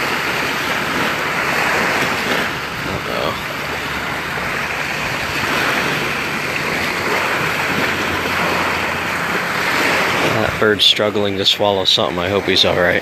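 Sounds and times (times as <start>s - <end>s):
wind on microphone: 0.0s - 11.3s
gentle surf on sandy beach: 0.0s - 13.0s.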